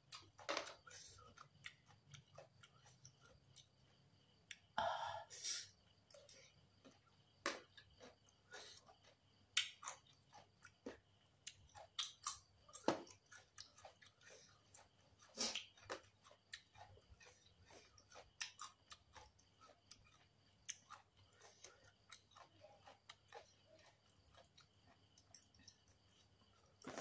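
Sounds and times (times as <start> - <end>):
wet chewing: 0.0 - 4.7, 5.9 - 27.0.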